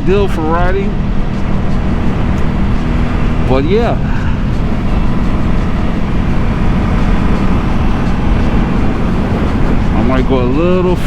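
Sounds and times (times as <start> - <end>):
low wind rumble: 0.0 - 11.0
motorcycle engine running: 0.0 - 11.0.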